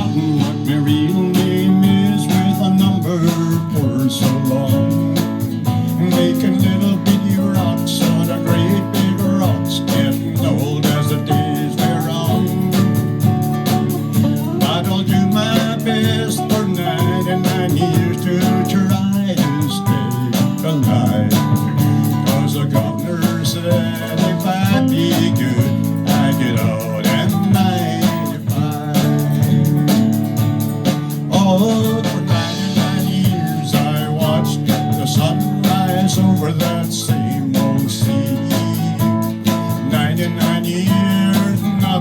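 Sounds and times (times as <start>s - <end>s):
lead guitar: 0.0s - 42.0s
live country band playing: 0.0s - 42.0s.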